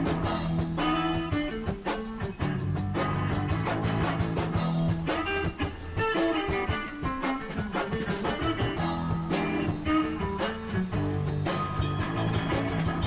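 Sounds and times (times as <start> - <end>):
drums keeping a steady beat: 0.0 - 13.0
guitar music: 0.0 - 13.0.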